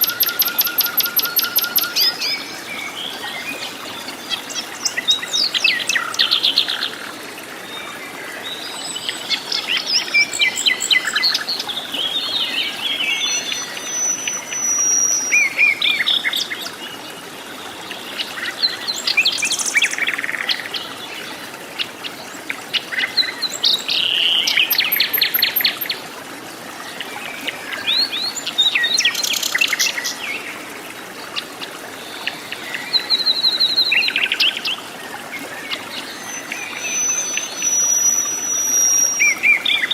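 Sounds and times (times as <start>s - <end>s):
forest birds chirping and trilling: 0.0s - 26.0s, 26.8s - 39.9s.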